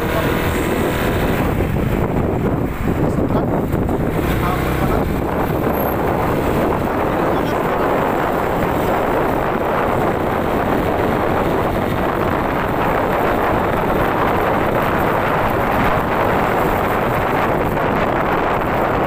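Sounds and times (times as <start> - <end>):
road noise: 0.0 - 19.0
wind rushing on microphone: 0.0 - 19.0.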